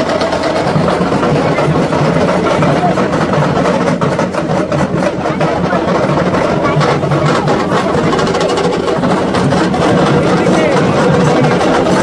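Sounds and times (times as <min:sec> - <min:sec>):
dense crowd din: 0:00.0 - 0:12.0.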